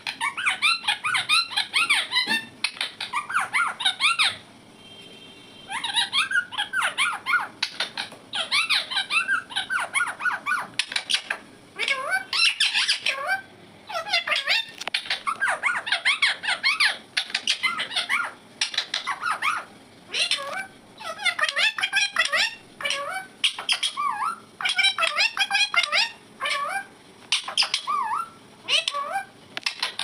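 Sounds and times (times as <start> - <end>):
parrot squeaky chirps: 0.0 - 4.4, 5.7 - 30.0.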